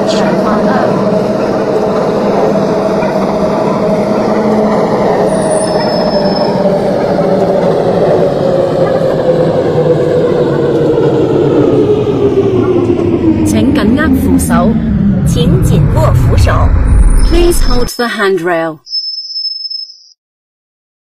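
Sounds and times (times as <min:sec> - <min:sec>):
traction motor whine: 0:00.0 - 0:17.8
train wheels rumbling on track: 0:00.0 - 0:17.9.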